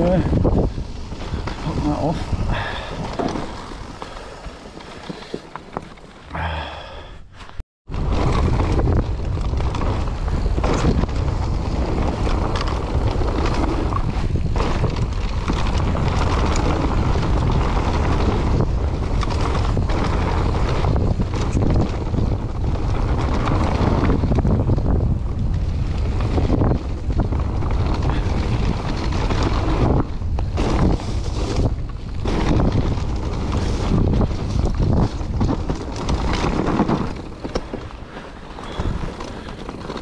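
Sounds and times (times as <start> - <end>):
wind buffeting microphone: 0.0 - 5.2, 7.9 - 40.0
bike knocking and rattling: 0.0 - 6.4, 7.4 - 40.0
rush of bike tyres: 0.0 - 40.0.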